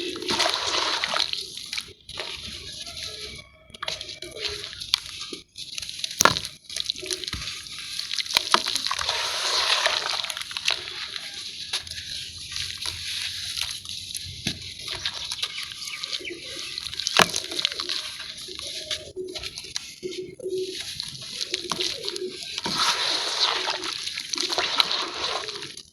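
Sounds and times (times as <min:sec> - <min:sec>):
gritty crackle of crumbling cement: 0:00.0 - 0:25.9
water sloshing and splashing: 0:00.0 - 0:25.9.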